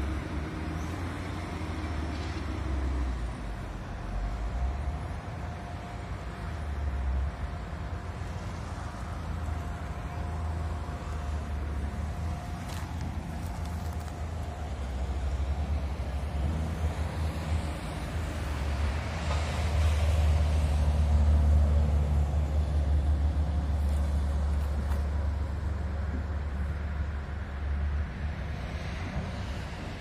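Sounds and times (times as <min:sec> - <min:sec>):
diesel engine of heavy machinery: 0:00.0 - 0:30.0.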